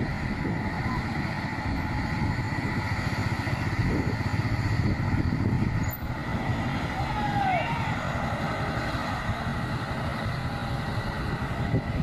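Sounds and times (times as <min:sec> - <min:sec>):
heavy truck engine rumbling: 0:00.0 - 0:12.0
road traffic: 0:00.0 - 0:12.0.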